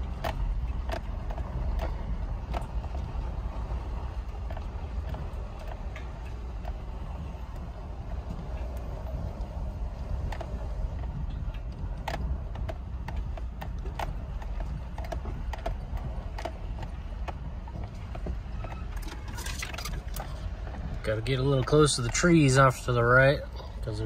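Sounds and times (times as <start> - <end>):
vehicle jolting clicks and knocks: 0.0 - 23.2
vehicle rumbling on dirt road: 0.0 - 24.0.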